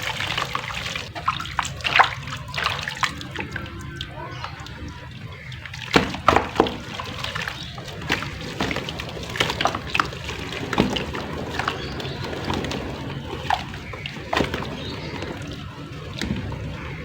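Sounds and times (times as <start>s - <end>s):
soaked clay crackling and popping: 0.0s - 17.0s
water pouring and splashing: 0.0s - 17.0s.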